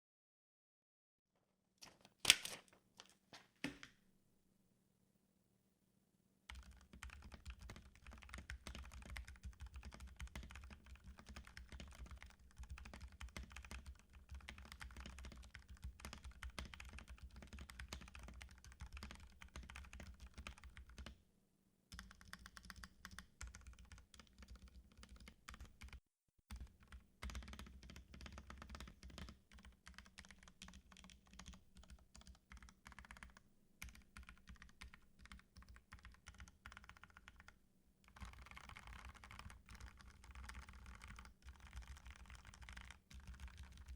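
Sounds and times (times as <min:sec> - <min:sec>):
mechanical keyboard typing: 0:06.5 - 0:21.2, 0:21.9 - 0:43.9.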